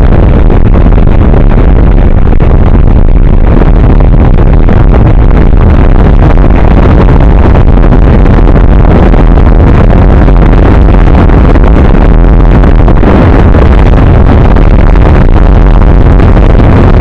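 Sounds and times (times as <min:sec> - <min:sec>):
distorted wind roar: 0:00.0 - 0:17.0
road and engine noise: 0:00.0 - 0:17.0.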